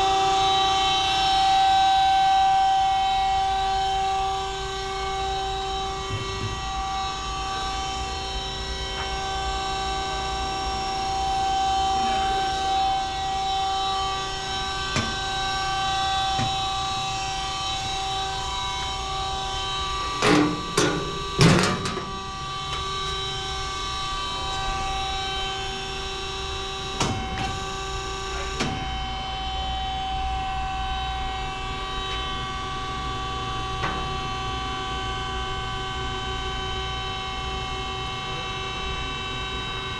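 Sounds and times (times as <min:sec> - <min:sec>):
band saw whining: 0:00.0 - 0:39.9.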